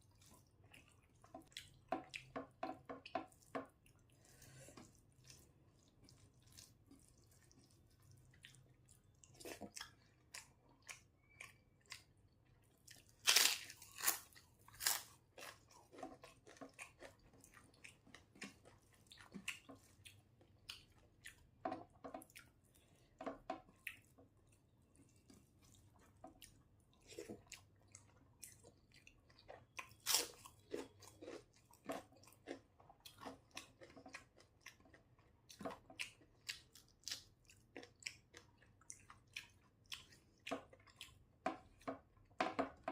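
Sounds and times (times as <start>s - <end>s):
chewing and mouth noises: 3.1s - 41.9s.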